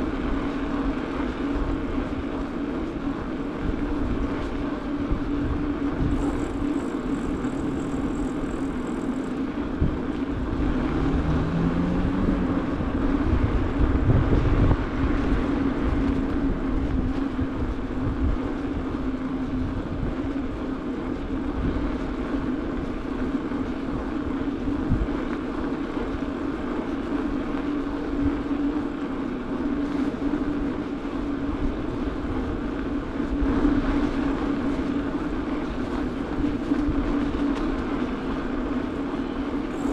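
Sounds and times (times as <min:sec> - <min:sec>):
bicycle tyres rolling on asphalt: 0:00.0 - 0:39.9
wind rumbling on microphone: 0:00.0 - 0:39.9.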